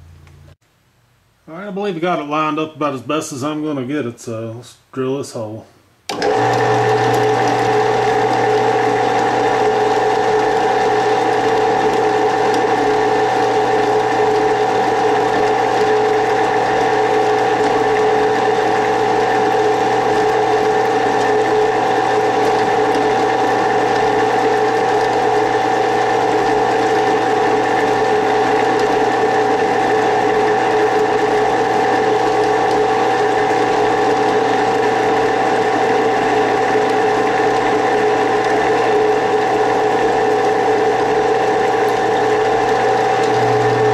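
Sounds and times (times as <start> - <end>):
drill press motor humming: 6.1 - 43.9.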